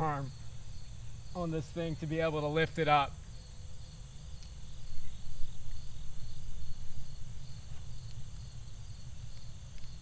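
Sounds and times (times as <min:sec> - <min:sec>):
insects trilling: 0:00.0 - 0:10.0
lower pulsing insect chirp: 0:00.0 - 0:10.0.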